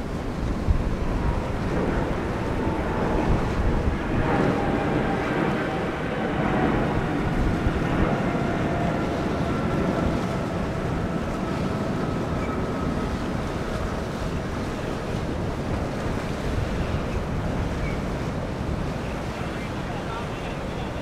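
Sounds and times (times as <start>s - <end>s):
boat engine hum: 0.0s - 21.0s
water rushing along hull: 0.0s - 21.0s
wind buffeting microphone: 0.0s - 21.0s.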